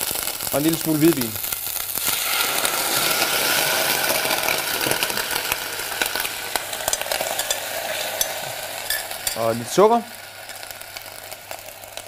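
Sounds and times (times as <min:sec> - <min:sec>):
shallots sizzling in pot: 0:00.0 - 0:12.0.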